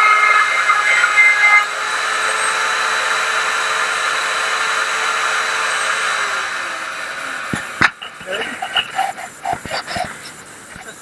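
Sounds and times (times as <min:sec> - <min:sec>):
power tool motor humming: 0:01.3 - 0:11.0.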